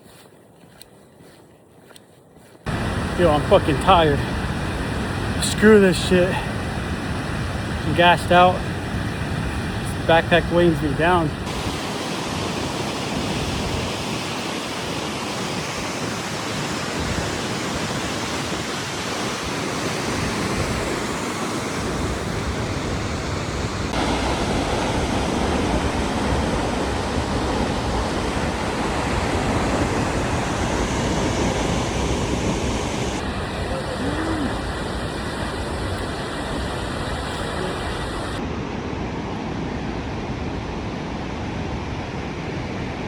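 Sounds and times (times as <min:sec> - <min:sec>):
falling water rushing: 0:02.7 - 0:08.8, 0:09.4 - 0:38.4.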